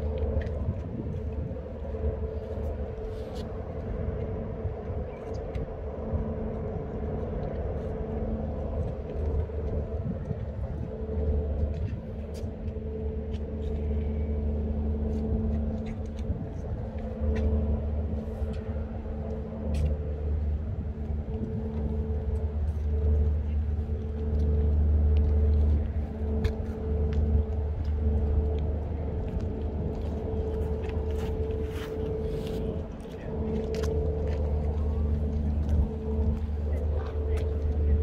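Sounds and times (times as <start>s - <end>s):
droning hum: 0.0s - 38.0s
low machine rumble: 0.0s - 38.0s.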